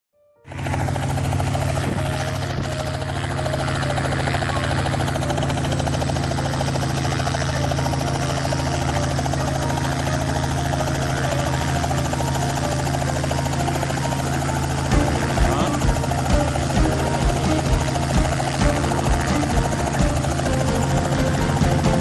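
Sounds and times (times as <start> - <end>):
helicopter rotor and engine: 0.5 - 22.0.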